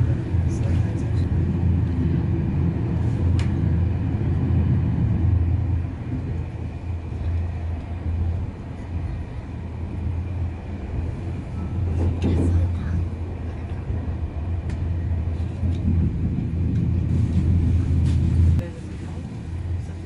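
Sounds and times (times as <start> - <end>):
train rumbling inside carriage: 0.0 - 20.0.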